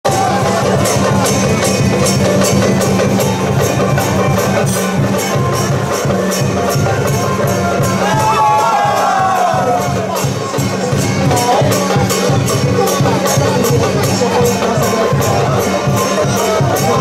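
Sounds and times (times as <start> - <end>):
drums: 0.0 - 17.0.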